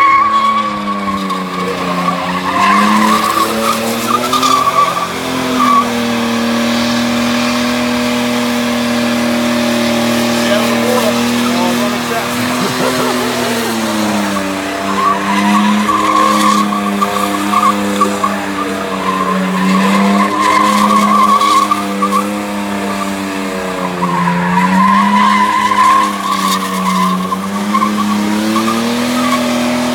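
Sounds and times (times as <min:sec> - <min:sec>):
car engine revving high: 0:00.0 - 0:29.9
tyres squealing: 0:00.0 - 0:29.9.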